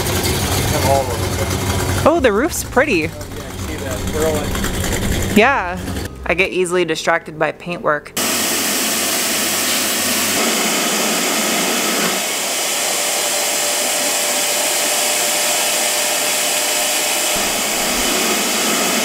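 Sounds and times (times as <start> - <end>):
shop vacuum running: 0.0 - 6.3, 8.2 - 19.0.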